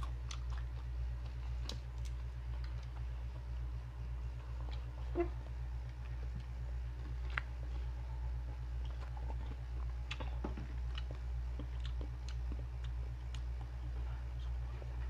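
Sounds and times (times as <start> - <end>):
people chewing crunchy food: 0.0 - 15.0
steady low hum: 0.0 - 15.0.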